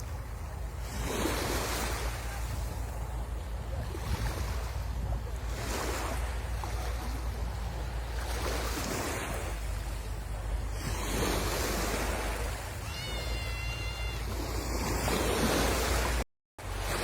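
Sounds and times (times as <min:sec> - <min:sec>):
sea waves breaking on shore: 0:00.0 - 0:17.0
wind rumble on microphone: 0:00.0 - 0:17.0.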